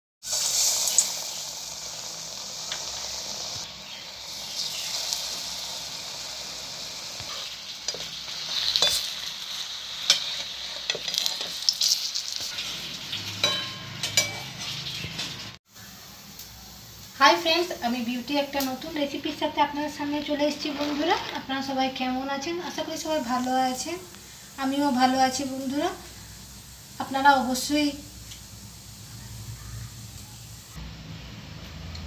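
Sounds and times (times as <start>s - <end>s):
fritters deep-frying in oil: 0.2s - 32.0s.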